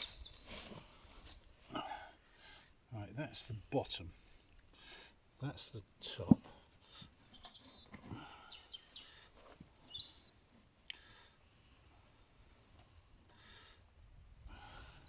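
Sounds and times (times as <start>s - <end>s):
small birds chirping: 0.0s - 2.6s, 3.2s - 13.8s, 14.5s - 15.0s.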